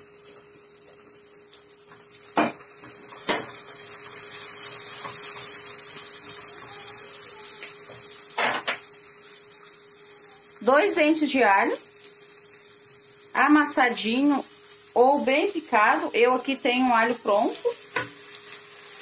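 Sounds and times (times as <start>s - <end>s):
sausage and onion sizzling: 0.0s - 19.0s.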